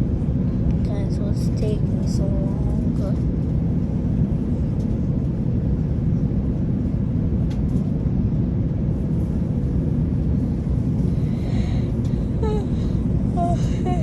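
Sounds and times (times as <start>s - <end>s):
airliner cabin engine rumble: 0.0s - 14.0s
faint steady hum: 0.0s - 14.0s.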